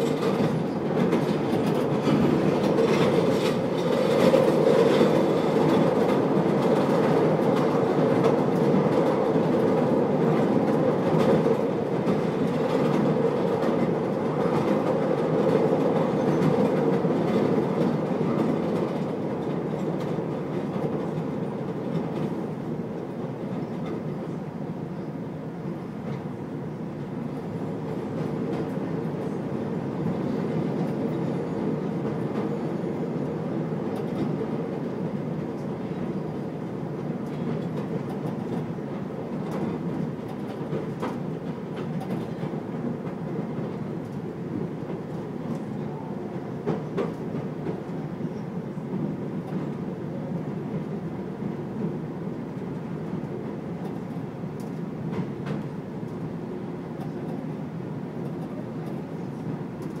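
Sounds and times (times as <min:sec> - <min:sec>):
train rumble inside car: 0:00.0 - 1:00.0.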